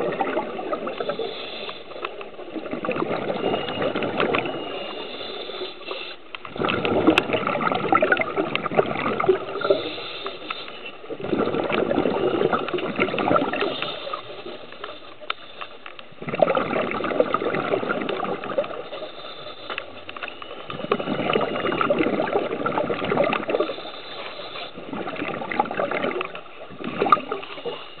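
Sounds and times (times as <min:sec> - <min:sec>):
underwater exhaust bubbles: 0:00.0 - 0:28.0.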